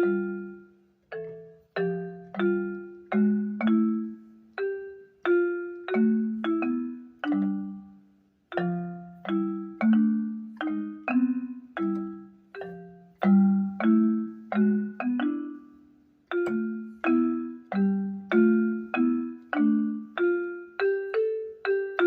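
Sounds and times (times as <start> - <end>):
mallet-like keyboard chords: 0.0 - 22.0.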